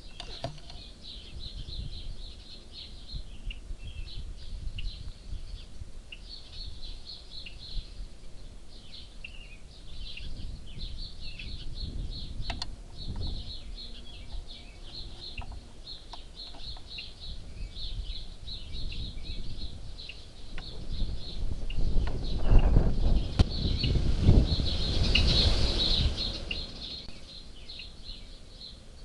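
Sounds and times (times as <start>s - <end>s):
wind on microphone: 0.0s - 28.2s
small birds chirping: 0.0s - 29.0s.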